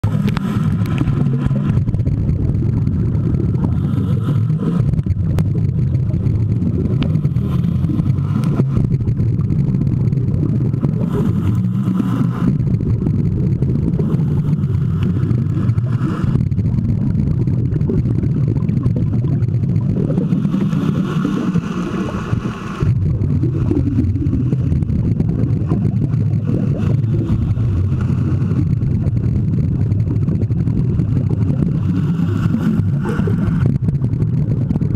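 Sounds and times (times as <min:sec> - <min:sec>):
muffled underwater rumble: 0:00.0 - 0:34.9
regulator bubbling: 0:00.0 - 0:34.9.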